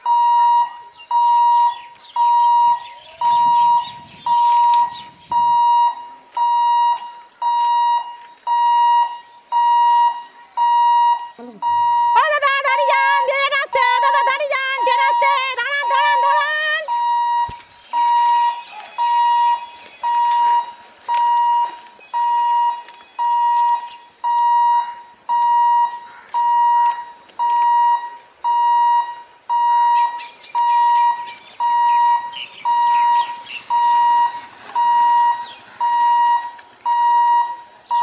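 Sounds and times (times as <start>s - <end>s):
level crossing alarm beeping: 0.0s - 38.0s.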